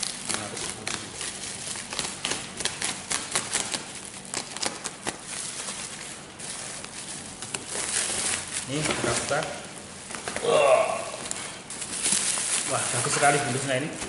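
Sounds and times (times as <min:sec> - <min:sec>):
bubble wrap crinkling and crackling: 0:00.0 - 0:14.0.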